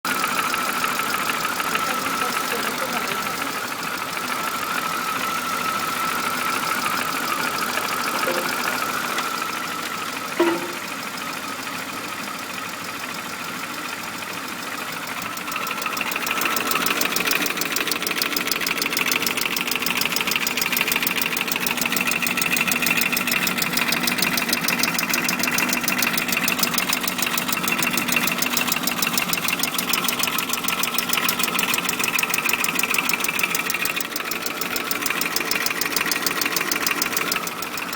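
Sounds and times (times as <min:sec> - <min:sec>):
car engine idling with ticking: 0:00.0 - 0:37.9.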